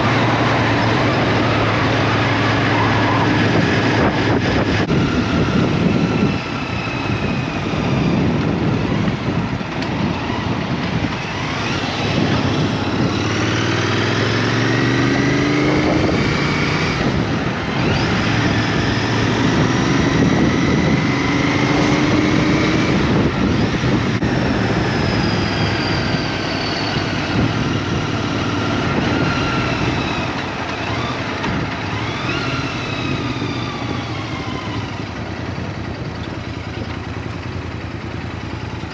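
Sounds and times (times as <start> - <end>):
motorbike engine revving: 0.0 - 38.9
road and wind noise: 0.0 - 38.9.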